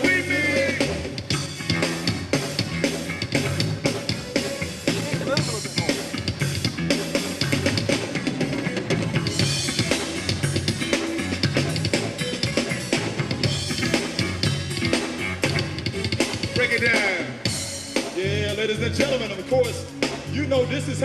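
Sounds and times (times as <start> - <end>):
drum kit beat: 0.0 - 21.0
repeating bass line: 0.0 - 21.0.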